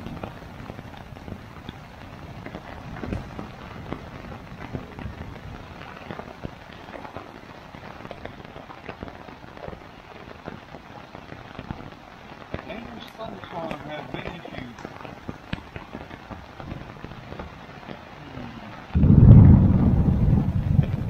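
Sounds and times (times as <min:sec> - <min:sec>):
rain on a tent: 0:00.0 - 0:21.0.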